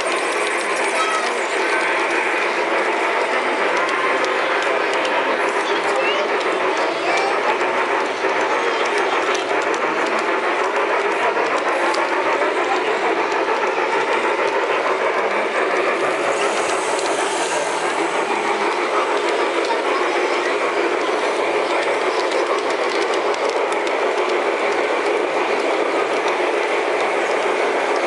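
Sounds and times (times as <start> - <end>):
model train clatter: 0.0 - 28.0
toy helicopter rotors spinning: 0.0 - 28.0.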